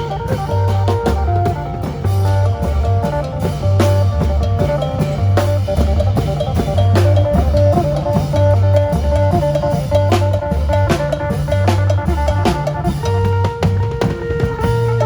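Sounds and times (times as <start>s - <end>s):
drum kit: 0.0s - 15.0s
heavy repeating bass line: 0.0s - 15.0s.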